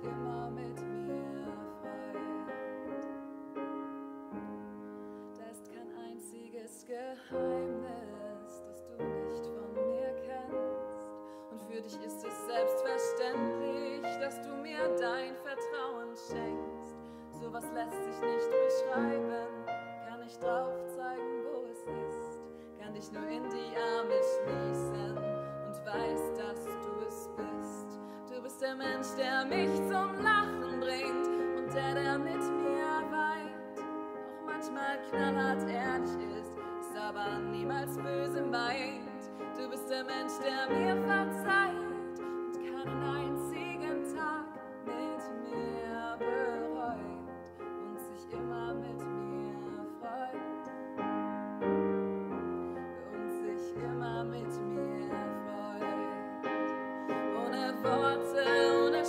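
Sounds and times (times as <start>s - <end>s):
woman singing: 0.0s - 3.0s, 5.2s - 51.0s, 52.7s - 59.0s
grand piano ballad: 0.0s - 59.0s.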